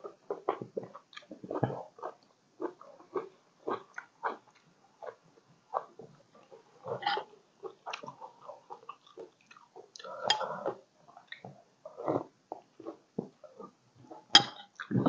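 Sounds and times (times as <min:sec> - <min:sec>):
close-up chewing: 0:00.0 - 0:15.0.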